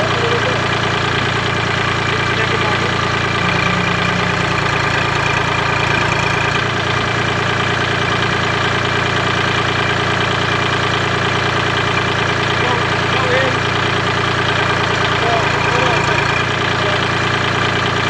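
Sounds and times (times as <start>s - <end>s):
diesel tractor engine idling: 0.0s - 18.0s.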